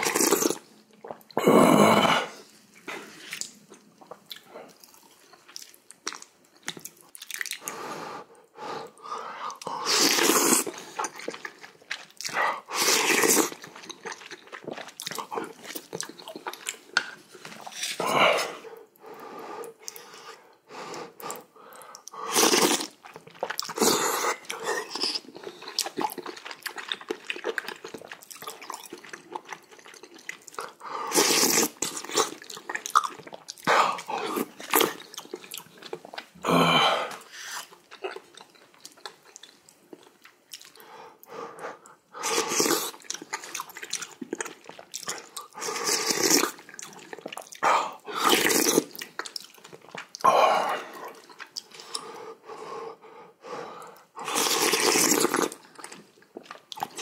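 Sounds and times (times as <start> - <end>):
chewing and wet mouthfuls: 2.6 - 7.8, 9.1 - 18.0, 21.2 - 36.4, 37.1 - 52.4, 53.8 - 57.0.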